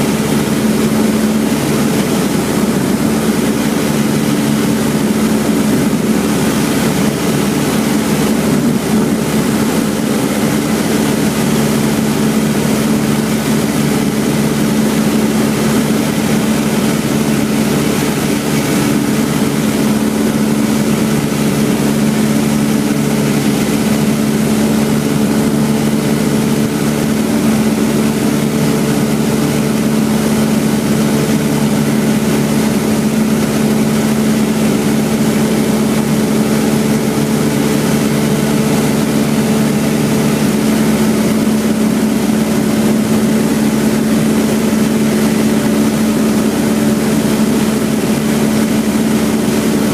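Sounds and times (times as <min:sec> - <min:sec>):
airplane engine drone: 0:00.0 - 0:49.9.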